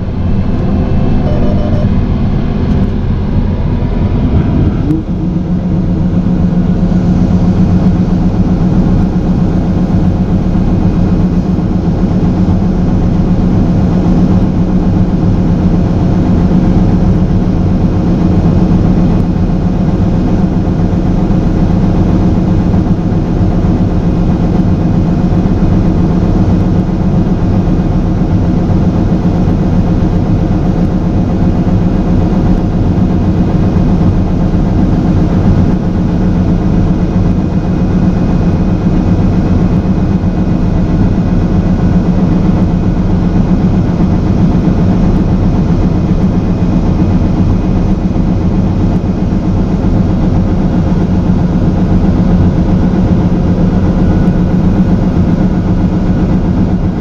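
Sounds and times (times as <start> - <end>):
diesel machinery droning: 0.0 - 57.0.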